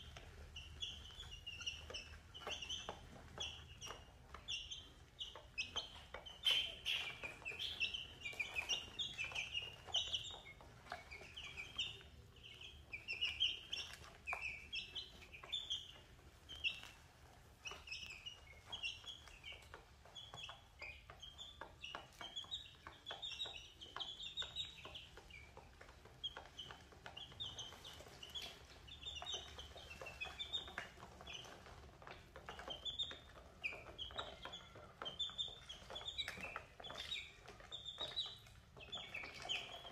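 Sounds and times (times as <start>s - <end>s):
beaks pecking on plastic tray: 0.0s - 39.9s
chicks peeping: 0.0s - 39.9s.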